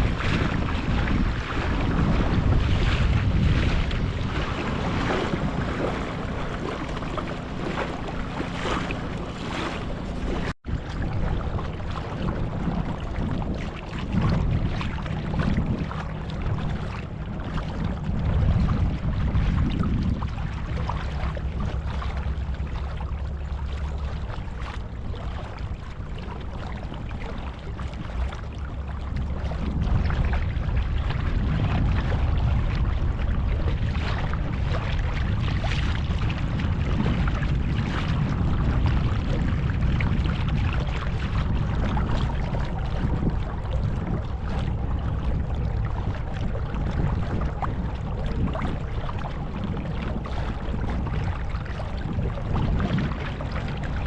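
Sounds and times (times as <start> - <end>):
boat motor running: 0.0 - 54.0
wind and water rushing: 0.0 - 54.0.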